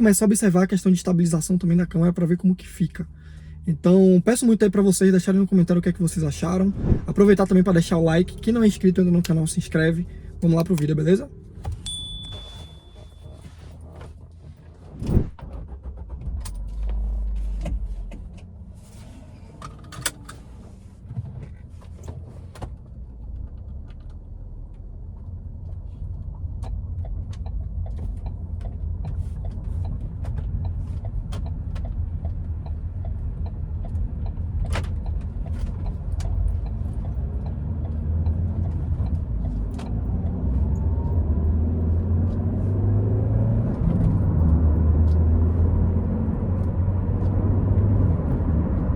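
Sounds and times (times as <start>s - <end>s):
car engine and road rumble: 0.0s - 48.9s
faint engine whine: 0.0s - 48.9s.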